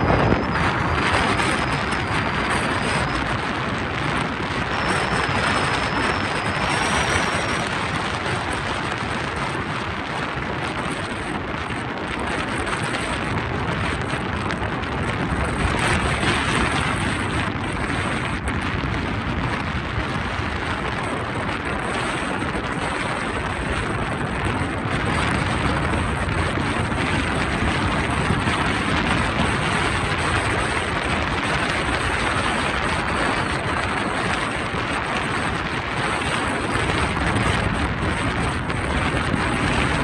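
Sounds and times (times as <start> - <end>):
car tyre and wind noise: 0.0 - 40.0.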